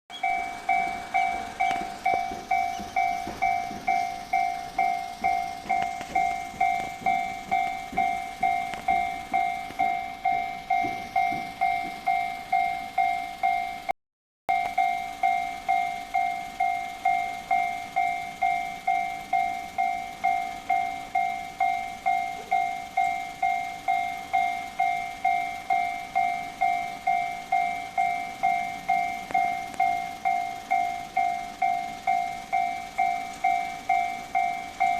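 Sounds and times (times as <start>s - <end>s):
level crossing warning bell: 0.1s - 13.9s, 14.5s - 34.9s
train rumbling and clattering: 0.1s - 13.9s, 14.5s - 34.9s.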